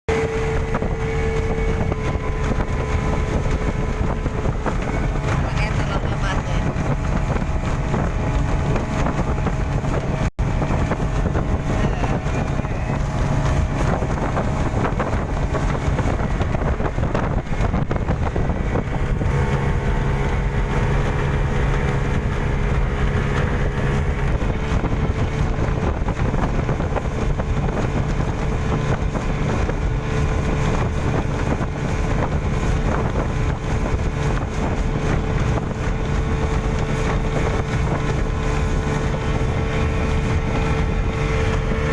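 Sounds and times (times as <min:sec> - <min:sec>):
speedboat engine running: 0:00.1 - 0:41.9
wind buffeting microphone: 0:00.1 - 0:41.9.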